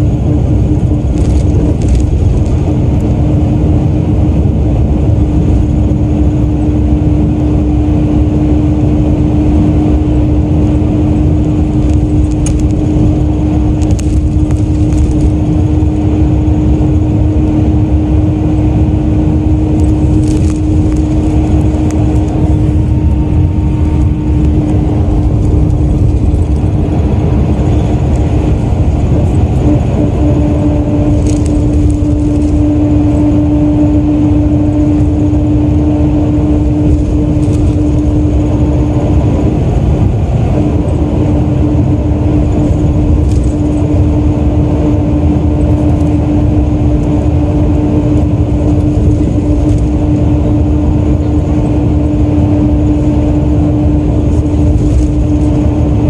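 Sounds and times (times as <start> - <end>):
coach engine and road drone: 0.0 - 56.0
constant whine: 0.0 - 56.0.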